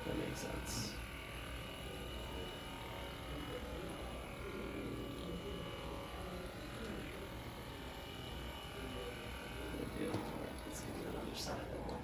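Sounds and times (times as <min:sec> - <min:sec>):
massage gun motor buzzing: 0:00.0 - 0:12.0.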